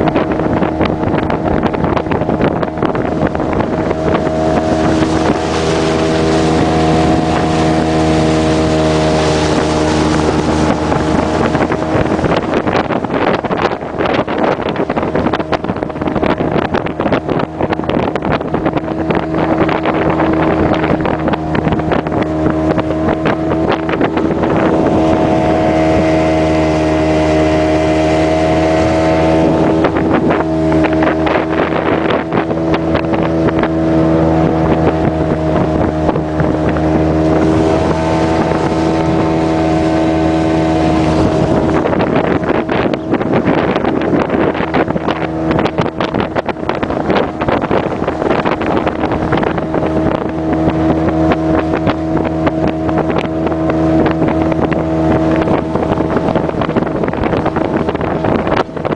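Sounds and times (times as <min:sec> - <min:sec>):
outboard motor running: 0:00.0 - 0:58.9
wind buffeting microphone: 0:00.0 - 0:58.9.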